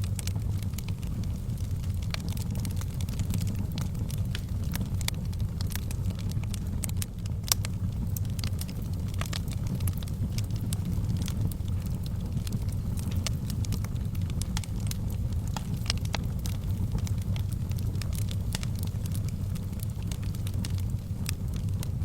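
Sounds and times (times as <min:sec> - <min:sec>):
crackles and pops of fire: 0:00.0 - 0:22.0
fire burning in a fireplace: 0:00.0 - 0:22.0.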